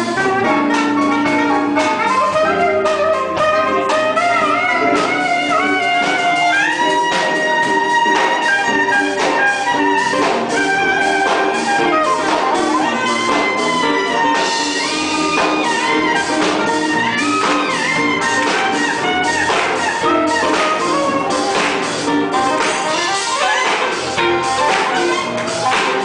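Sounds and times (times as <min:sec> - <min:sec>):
brass holding notes: 0:00.0 - 0:26.0
orchestra playing: 0:00.0 - 0:26.0
percussive beat: 0:00.0 - 0:26.0.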